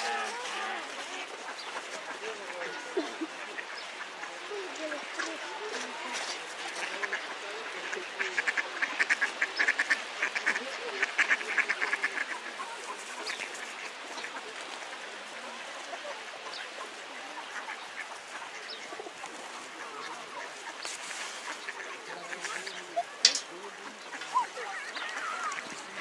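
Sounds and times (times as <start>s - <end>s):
ducks quacking: 0.0s - 26.0s.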